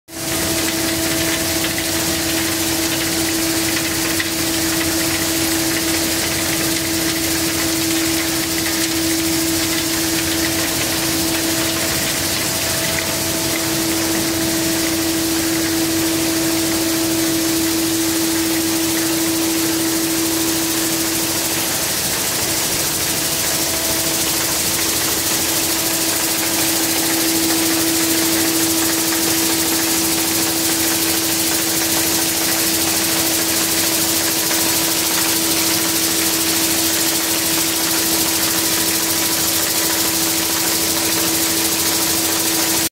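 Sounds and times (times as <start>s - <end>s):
constant hiss: 0.1s - 42.9s
machine humming: 0.1s - 42.9s.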